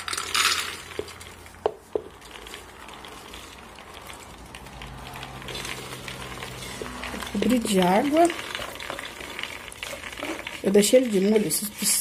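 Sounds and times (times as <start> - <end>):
beans sliding and falling into pot: 0.0 - 12.0.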